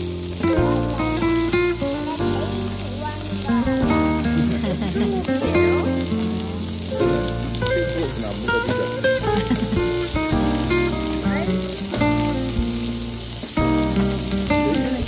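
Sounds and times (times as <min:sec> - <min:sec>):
background music with bass line: 0:00.0 - 0:15.0
meat sizzling on a grill plate: 0:00.0 - 0:15.0.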